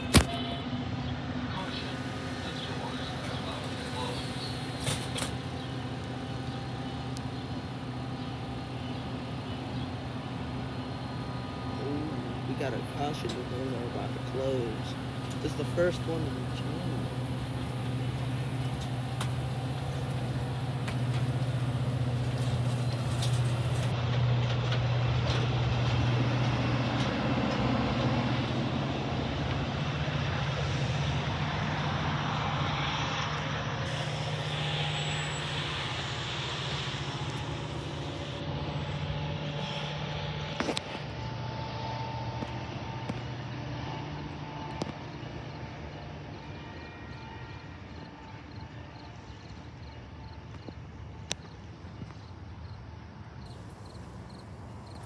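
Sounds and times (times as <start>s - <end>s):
train wheels rumbling on rails: 0.0s - 46.5s
low hum: 0.0s - 47.7s.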